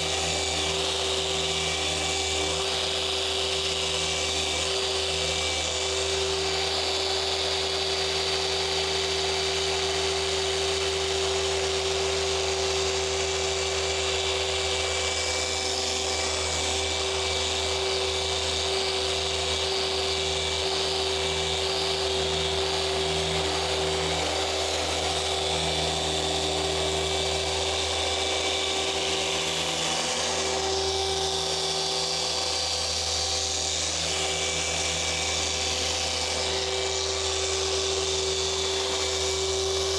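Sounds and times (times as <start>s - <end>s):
car polisher motor whine: 0.0s - 39.9s.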